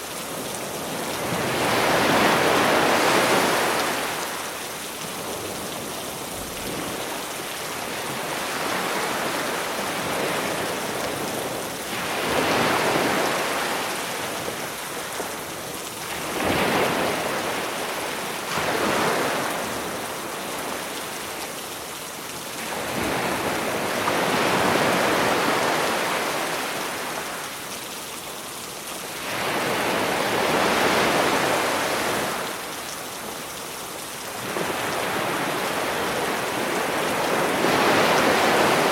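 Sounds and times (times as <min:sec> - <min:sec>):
sea waves breaking on shore: 0:00.0 - 0:21.8, 0:22.5 - 0:27.8, 0:29.0 - 0:38.9.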